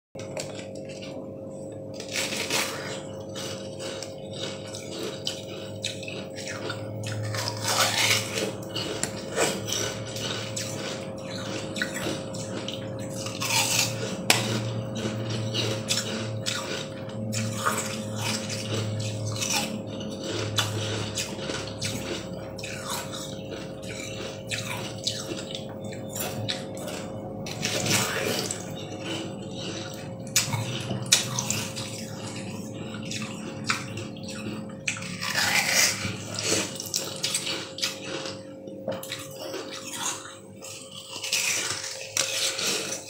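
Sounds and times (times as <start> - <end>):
biting and chewing jelly: 0.2 - 43.0
steady low hum: 0.2 - 43.0.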